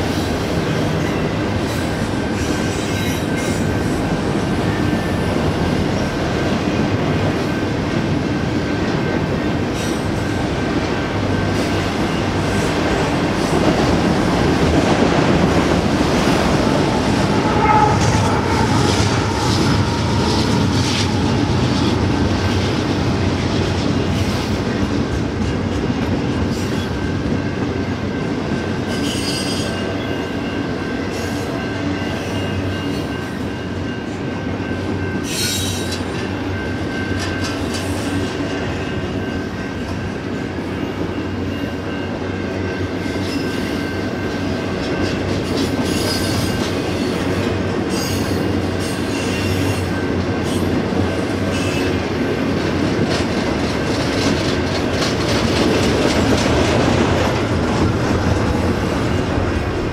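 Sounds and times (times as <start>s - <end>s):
steel wheels on rail: 0.0s - 59.9s.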